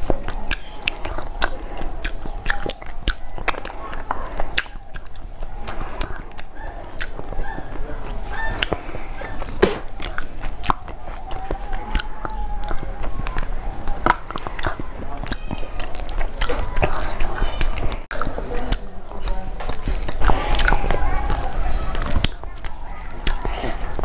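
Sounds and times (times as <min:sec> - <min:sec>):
person chewing food: 0:00.0 - 0:24.0
wet mouth clicks and smacks: 0:00.0 - 0:24.0.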